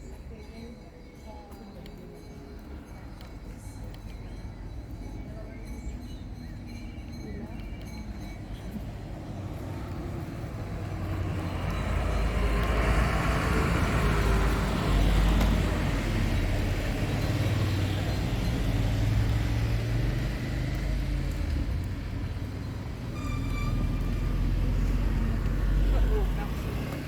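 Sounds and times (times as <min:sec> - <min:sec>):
vehicle engine rumbling: 0:02.2 - 0:27.0.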